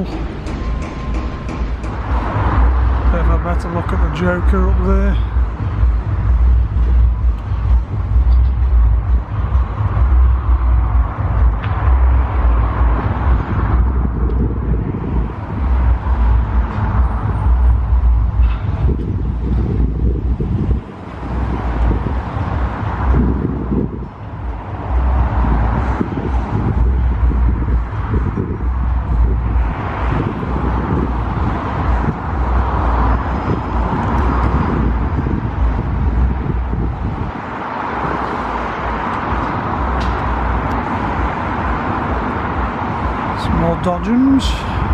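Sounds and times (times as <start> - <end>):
wind buffeting microphone: 0.0 - 43.4
low gusting rumble: 0.0 - 44.9
road traffic passing: 0.0 - 44.9.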